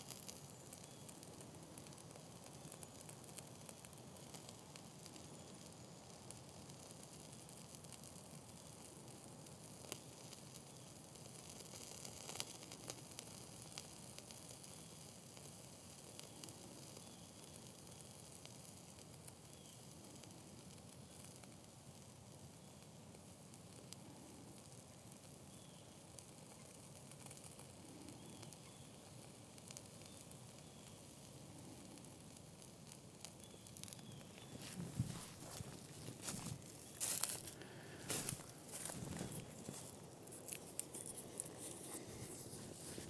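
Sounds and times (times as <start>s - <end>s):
small flames hissing and crackling: 0.0s - 43.0s.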